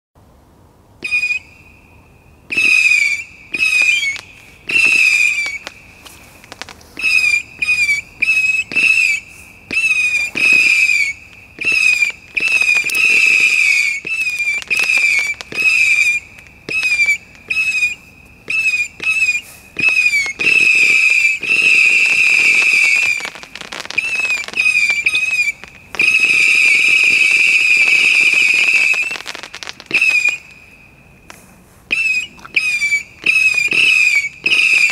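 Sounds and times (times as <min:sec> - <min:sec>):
fireworks whistling: 0:01.0 - 0:34.9
firework pops: 0:02.5 - 0:30.6, 0:31.2 - 0:34.9.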